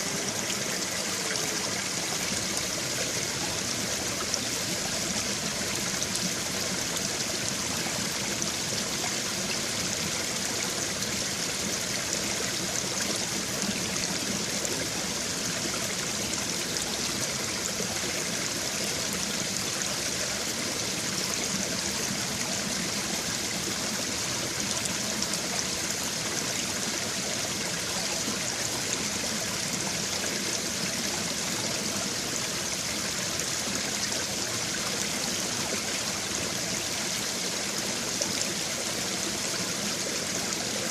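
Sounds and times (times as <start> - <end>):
stream water burbling over stones: 0.0 - 40.9.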